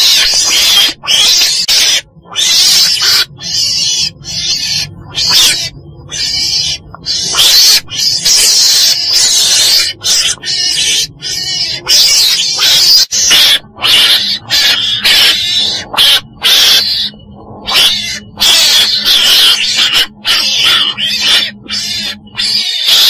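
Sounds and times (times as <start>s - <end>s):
weasel harsh calls: 0.0s - 23.0s.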